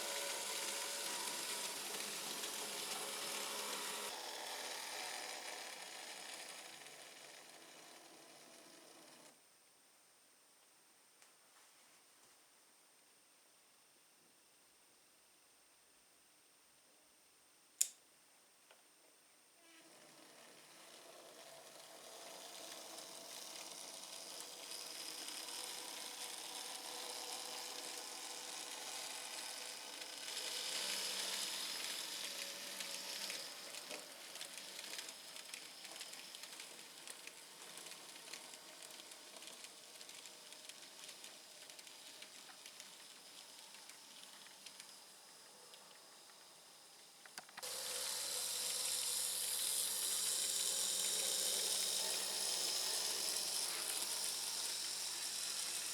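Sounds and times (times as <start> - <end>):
model train hissing rattle: 0.0 - 9.3, 19.9 - 55.9.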